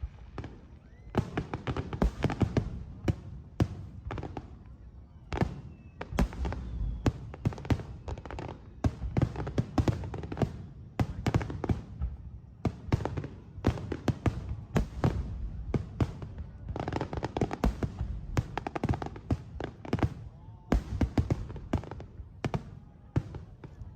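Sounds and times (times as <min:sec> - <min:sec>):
fireworks bangs: 0:00.0 - 0:04.6, 0:05.4 - 0:23.9.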